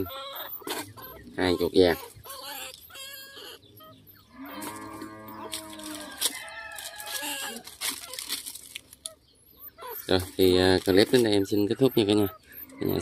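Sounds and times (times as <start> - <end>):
long farm animal call: 0.0 - 8.4, 9.0 - 13.0
chickens clucking: 0.0 - 13.0.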